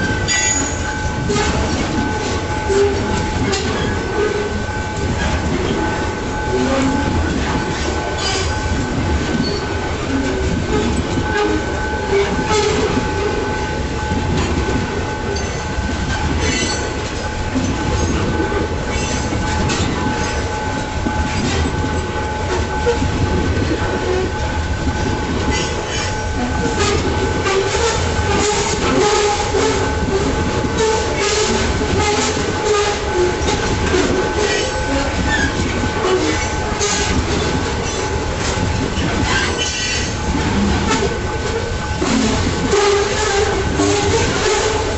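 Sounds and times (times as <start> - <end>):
freight train rumble: 0.0 - 44.9
train wheels clicking over rail joints: 0.0 - 44.9.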